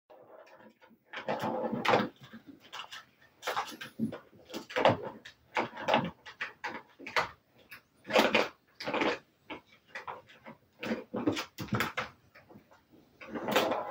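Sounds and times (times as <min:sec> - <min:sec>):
plastic toy knocks and rattles: 0:00.3 - 0:13.9.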